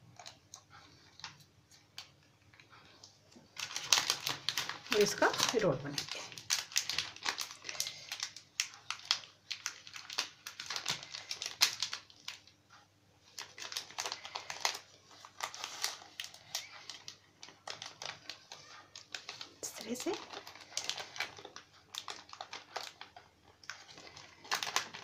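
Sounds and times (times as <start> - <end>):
plastic sheet crinkling: 0.1 - 25.0.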